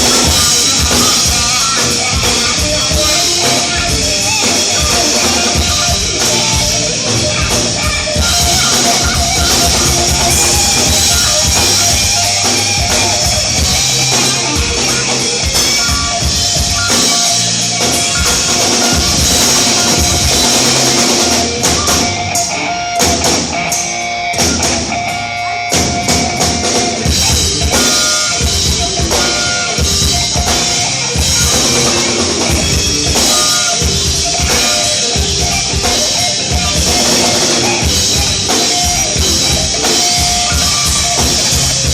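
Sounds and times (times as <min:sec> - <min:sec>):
drum kit: 0:00.0 - 0:41.9
electric guitar: 0:00.0 - 0:41.9.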